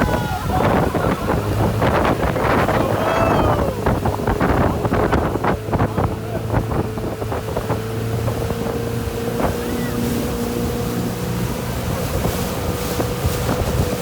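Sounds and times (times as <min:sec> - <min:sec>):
motorboat engine humming: 0:00.0 - 0:14.0
water slaps: 0:00.0 - 0:14.0
wind buffeting microphone: 0:00.0 - 0:14.0.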